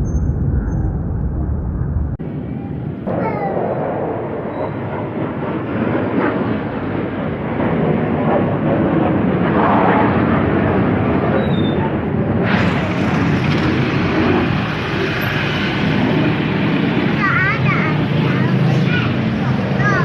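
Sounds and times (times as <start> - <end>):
falling jet whine: 0.0 - 20.0
fighter jets flying over: 0.0 - 20.0.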